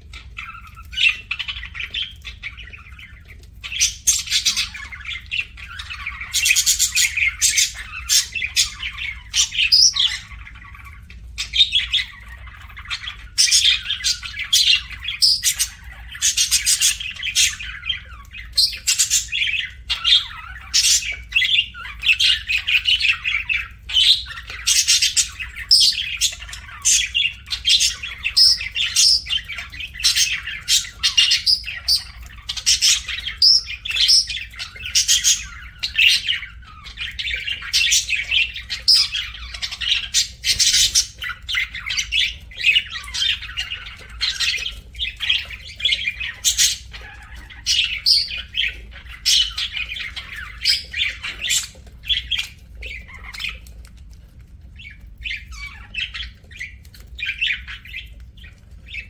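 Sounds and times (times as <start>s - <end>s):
budgerigars chattering: 0.0s - 54.0s, 54.6s - 59.0s.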